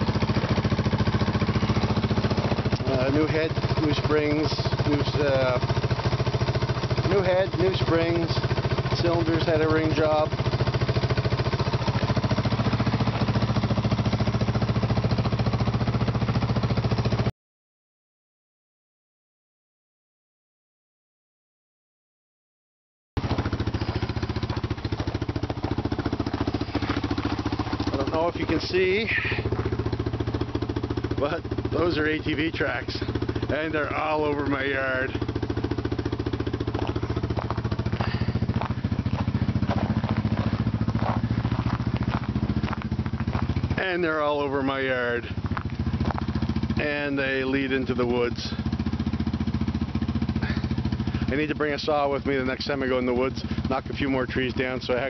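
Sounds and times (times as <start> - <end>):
engine idling: 0.0 - 17.3, 23.2 - 55.0.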